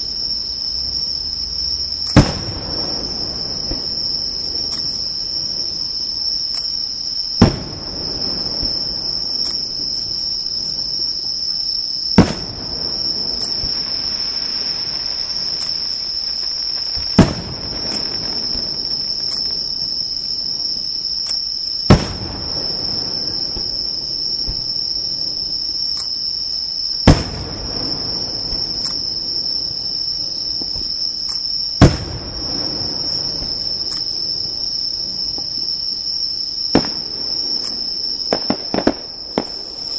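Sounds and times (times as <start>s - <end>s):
fireworks bangs: 0.0s - 26.2s, 26.8s - 39.9s
high trill of insects: 0.0s - 39.9s.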